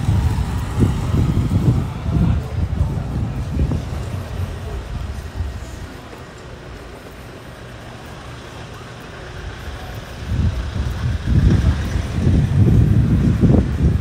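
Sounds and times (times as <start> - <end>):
city street traffic: 0.0 - 14.0
loud uneven low rumble: 0.0 - 14.0.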